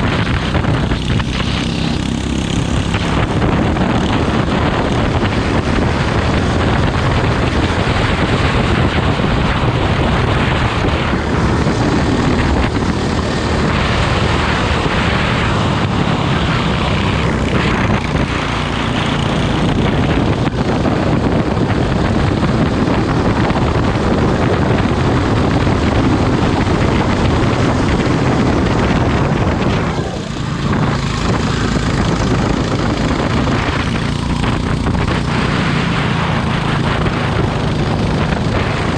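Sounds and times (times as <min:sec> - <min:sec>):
kart engine droning: 0:00.0 - 0:38.9.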